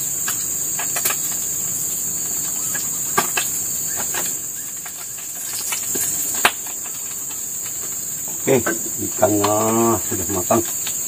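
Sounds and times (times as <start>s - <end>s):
fish frying in hot oil: 0.0s - 11.0s
insects chirring: 0.0s - 11.0s.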